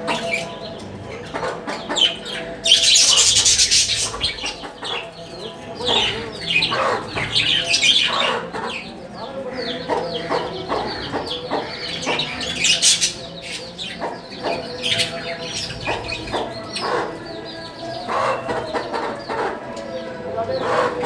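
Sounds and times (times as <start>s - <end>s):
parrots chirping and chattering: 0.0s - 21.0s.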